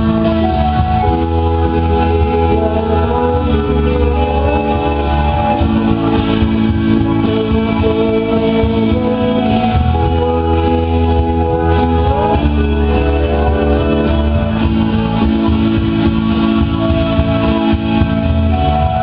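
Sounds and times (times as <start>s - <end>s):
guitar notes: 0.0s - 19.0s
heavy bass notes: 0.0s - 19.0s
synthesizer notes: 0.0s - 19.0s.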